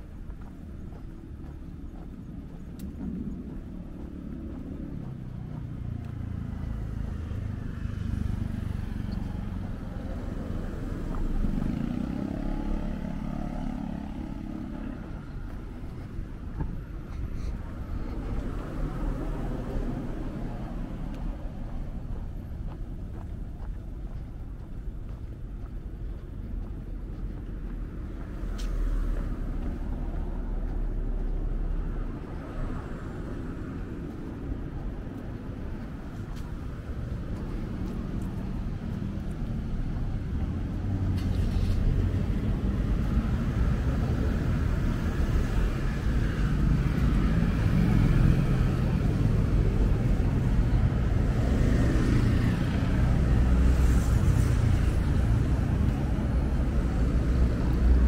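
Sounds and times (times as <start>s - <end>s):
road traffic rumble: 0.0s - 58.0s
vehicles passing: 0.0s - 58.0s.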